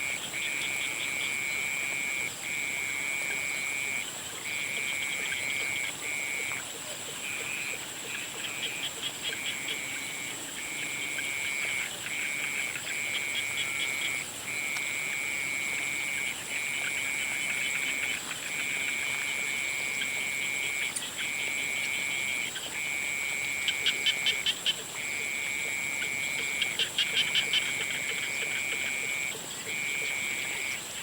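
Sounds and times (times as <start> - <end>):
frogs trilling: 0.0 - 31.0.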